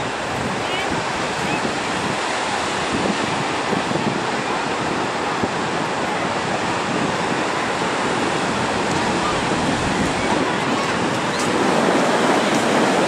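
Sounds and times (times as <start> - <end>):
small waves breaking on sand: 0.0 - 13.0
wind buffeting microphone: 0.0 - 13.0.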